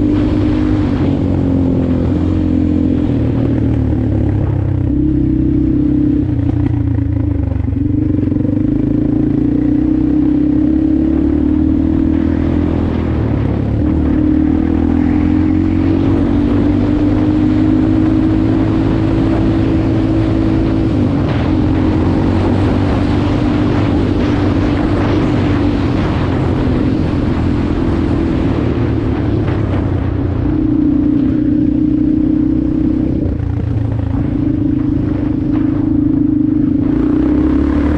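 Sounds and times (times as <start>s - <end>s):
motorcycle engine running: 0.0s - 37.9s
rough noise: 0.0s - 37.9s.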